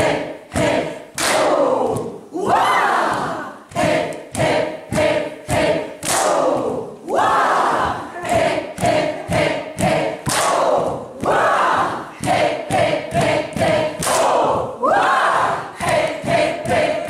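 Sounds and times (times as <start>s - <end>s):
women chanting to a beat: 0.0s - 17.0s.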